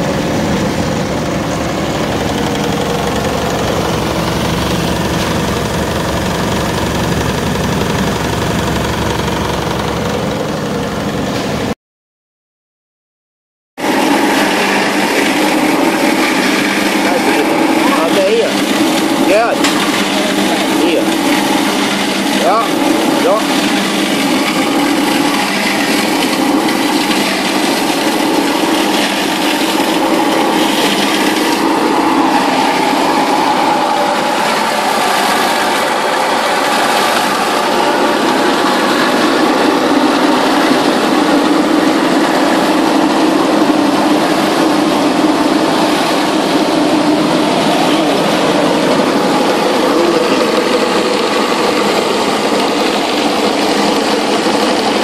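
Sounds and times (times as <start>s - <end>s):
machine humming: 0.0s - 11.8s, 13.8s - 55.0s.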